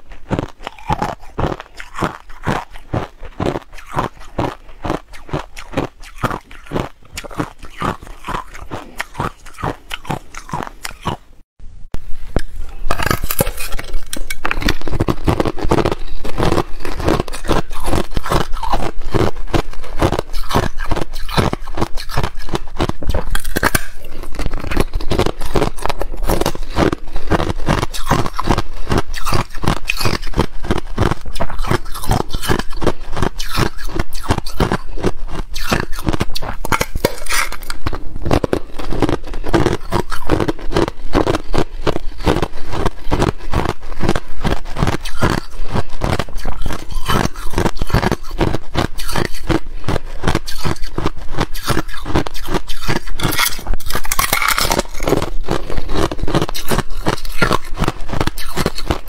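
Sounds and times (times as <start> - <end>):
ice crunching and cracking: 0.3 - 11.2, 12.4 - 59.0.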